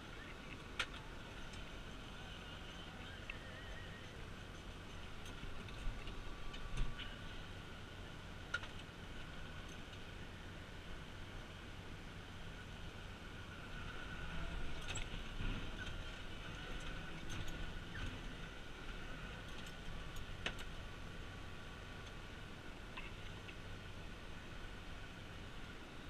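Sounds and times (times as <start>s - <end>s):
machinery engine low hum: 0.0s - 26.0s.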